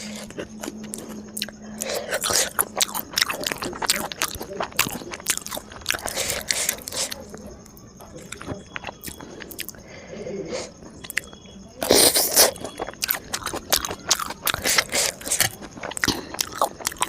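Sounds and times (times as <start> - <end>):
crunchy bite and crunching: 0.0 - 9.8, 10.5 - 17.0
wet chewing and mouth clicks: 0.0 - 9.9, 10.5 - 17.0.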